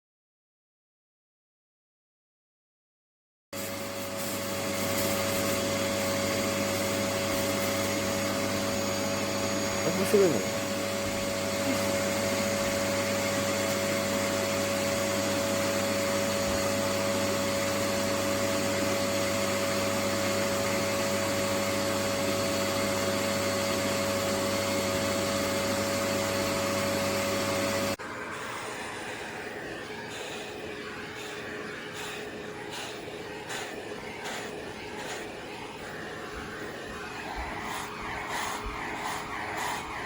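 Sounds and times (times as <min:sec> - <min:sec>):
grooming vacuum humming: 0:03.6 - 0:40.0.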